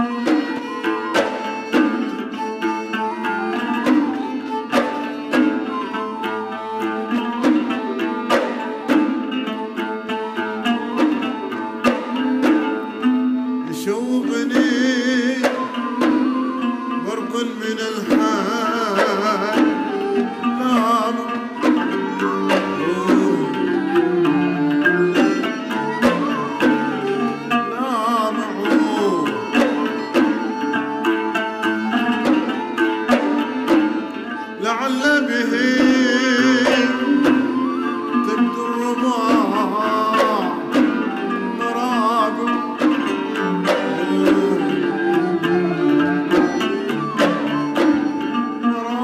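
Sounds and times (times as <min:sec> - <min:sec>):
hand drum strokes: 0:00.0 - 0:49.0
plucked strings: 0:00.0 - 0:49.0.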